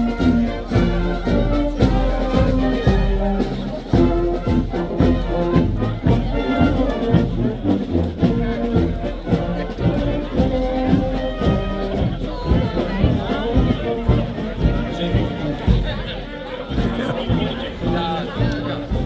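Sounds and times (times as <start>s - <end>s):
brass band march: 0.0s - 19.0s.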